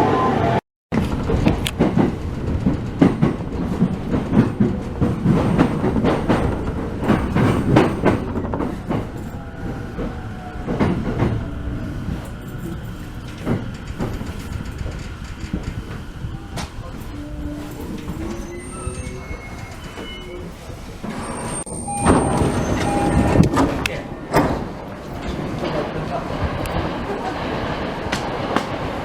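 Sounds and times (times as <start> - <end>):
train wheels clattering over rail joints: 0.9 - 20.1, 22.1 - 29.0.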